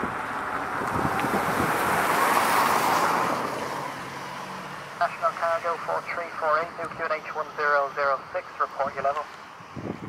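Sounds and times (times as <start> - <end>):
jet engines roaring at takeoff: 0.0 - 10.0.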